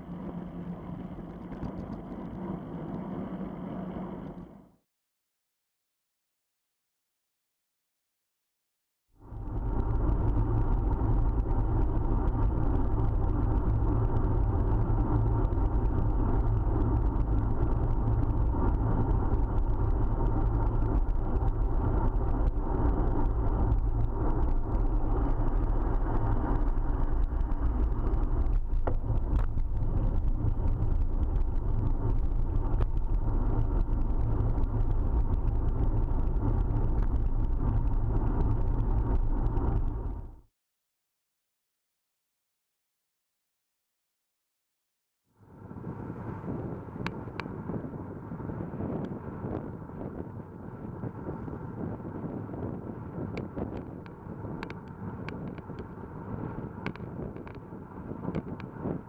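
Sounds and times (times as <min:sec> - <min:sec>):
muffled road and wind rumble: 0:00.0 - 0:04.8, 0:09.2 - 0:40.5, 0:45.3 - 0:59.0.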